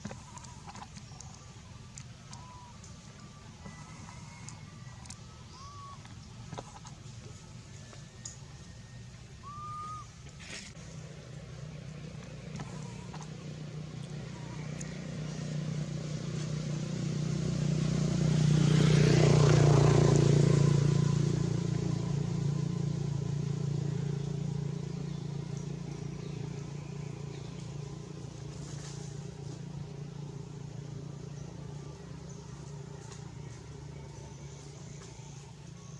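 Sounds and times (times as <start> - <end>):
vehicle engine driving past: 1.7 - 35.9.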